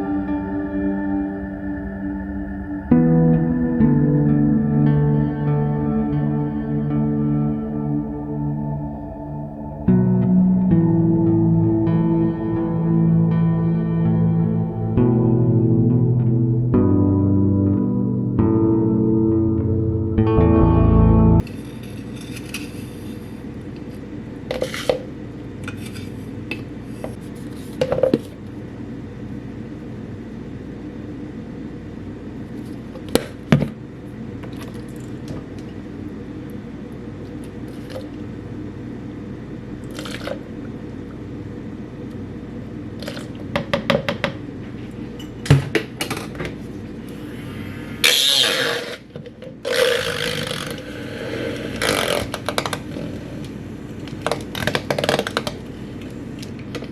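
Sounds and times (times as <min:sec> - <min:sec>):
steady low hum: 0:00.0 - 0:43.6, 0:44.4 - 0:49.6, 0:50.2 - 0:56.9.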